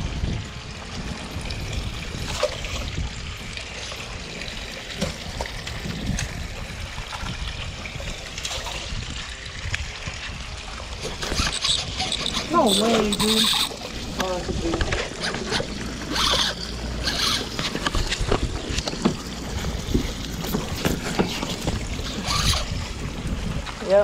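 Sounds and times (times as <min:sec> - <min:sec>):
low steady rumble: 0:00.0 - 0:24.0
water sloshing against dock: 0:00.0 - 0:24.0.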